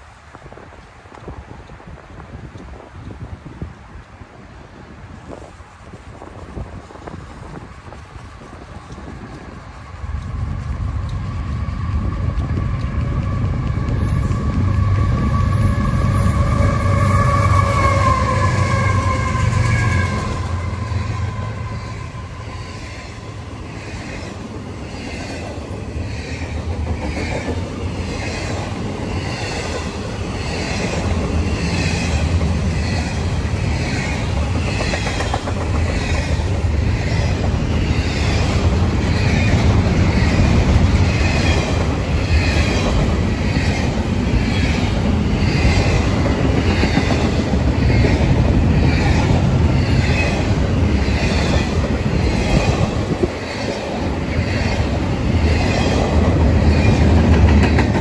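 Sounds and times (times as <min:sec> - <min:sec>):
freight train rumbling past: 0:00.0 - 0:58.0
train wheels clicking on rails: 0:05.1 - 0:58.0.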